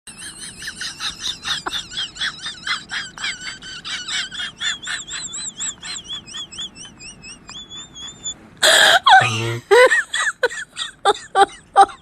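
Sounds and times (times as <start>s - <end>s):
squeaky comic laughter: 0.1s - 12.0s.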